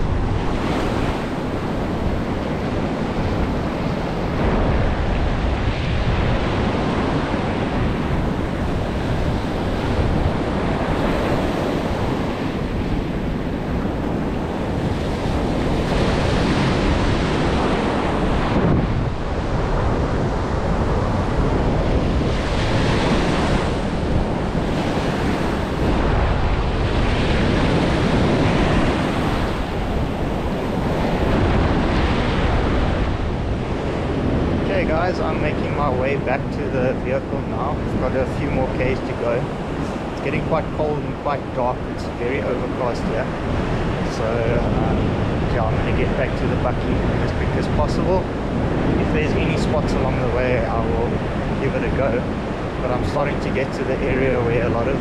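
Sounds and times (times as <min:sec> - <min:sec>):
ocean waves breaking: 0:00.0 - 0:55.0
wind buffeting microphone: 0:00.0 - 0:55.0.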